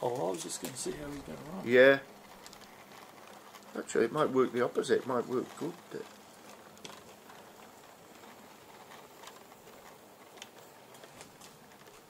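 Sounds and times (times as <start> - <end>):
model train running hum: 0.0 - 12.0.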